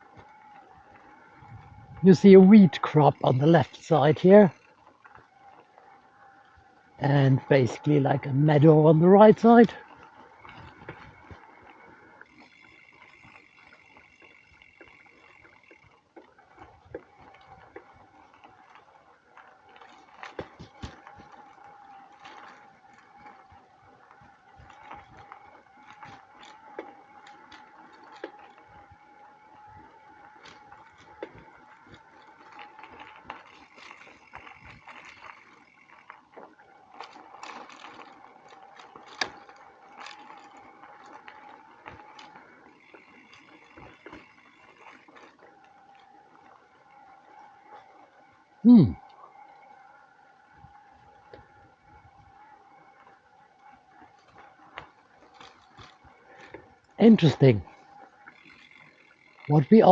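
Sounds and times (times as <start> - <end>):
bicycle ticking and rattling: 0.0 - 59.9
steady whirring hum: 0.0 - 59.9.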